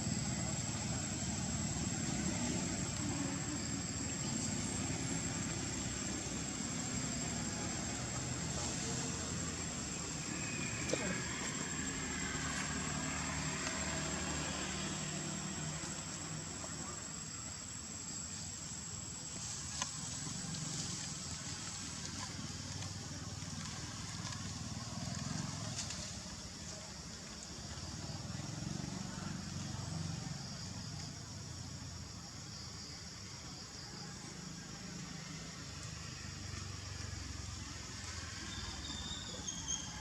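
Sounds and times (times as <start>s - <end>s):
high insect whine: 0.0s - 40.0s.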